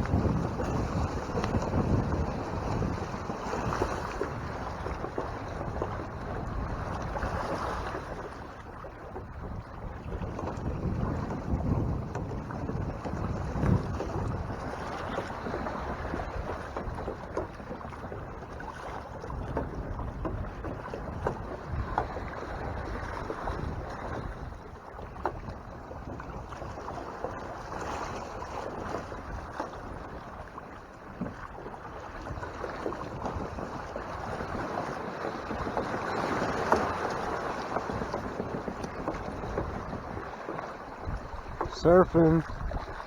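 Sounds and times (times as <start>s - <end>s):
water rushing along hulls: 0.0s - 43.0s
wind buffeting microphone: 0.0s - 43.0s.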